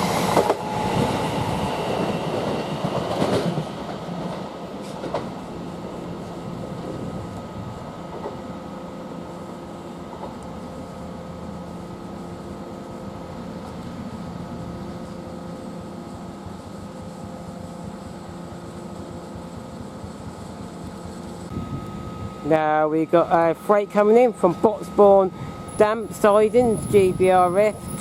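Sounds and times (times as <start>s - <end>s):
trains humming: 0.0s - 17.1s, 18.3s - 28.0s.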